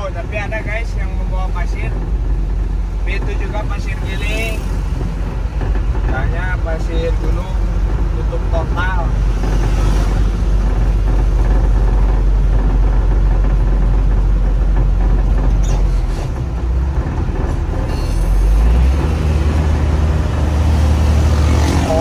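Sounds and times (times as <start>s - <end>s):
truck diesel engine drone: 0.0s - 22.0s.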